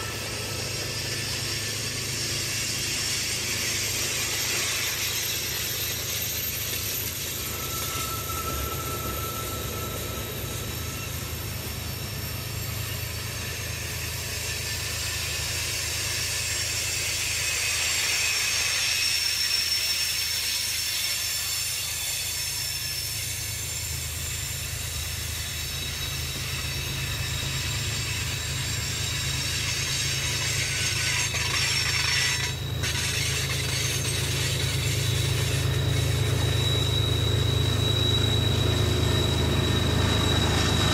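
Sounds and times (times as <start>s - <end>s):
low train rumble: 0.0s - 40.9s
train wheels squealing on rails: 0.0s - 40.9s.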